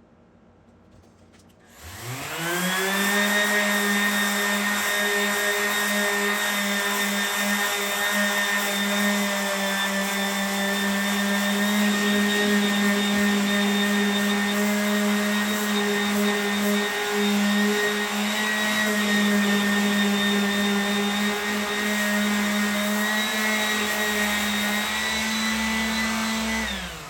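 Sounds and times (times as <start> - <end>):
electric sander running: 1.7 - 27.0.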